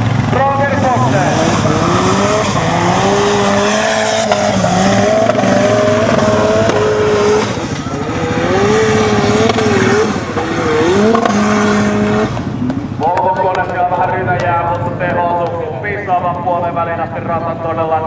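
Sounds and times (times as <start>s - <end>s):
buggy engine at high revs: 0.0s - 15.5s.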